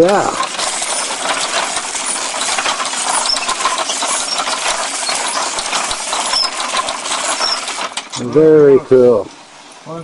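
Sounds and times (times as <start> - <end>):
wooden gears clattering: 0.0 - 8.5.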